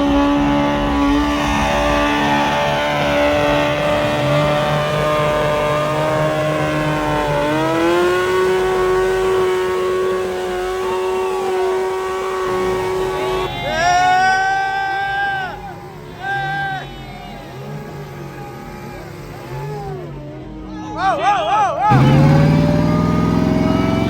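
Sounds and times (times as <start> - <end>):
truck engine revving high: 0.0 - 20.7, 21.6 - 24.0.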